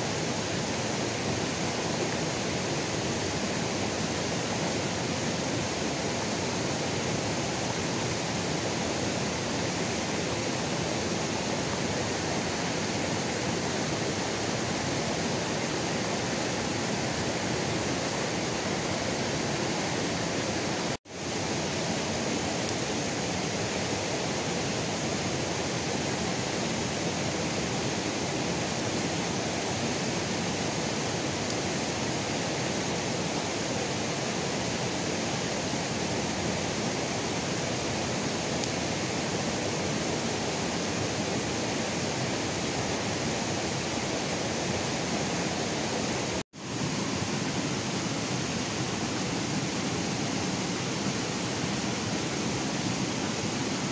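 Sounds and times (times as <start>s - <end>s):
rushing rocky river: 0.0s - 53.9s.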